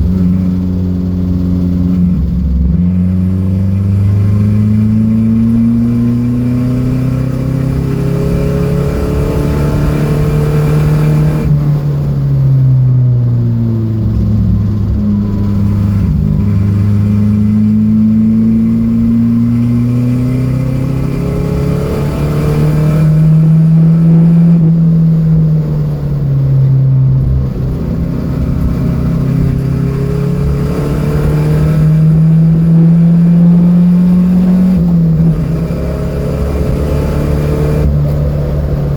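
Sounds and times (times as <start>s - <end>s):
car engine running hard: 0.0s - 38.9s.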